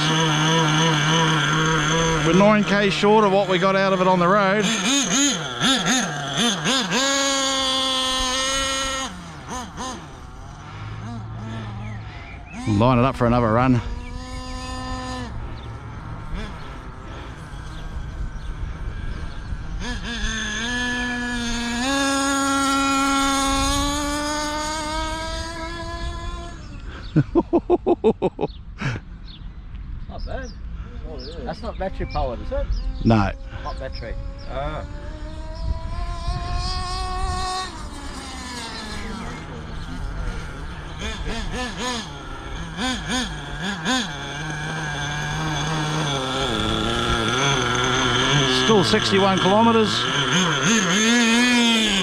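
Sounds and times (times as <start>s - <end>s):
model truck engine at full throttle: 0.0s - 27.6s, 30.8s - 52.0s.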